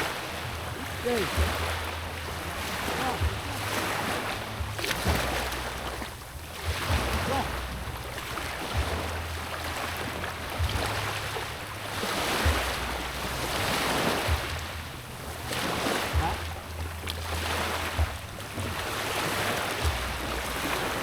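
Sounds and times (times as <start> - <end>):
sea waves washing in: 0.0 - 21.0
wind buffeting microphone: 0.0 - 21.0.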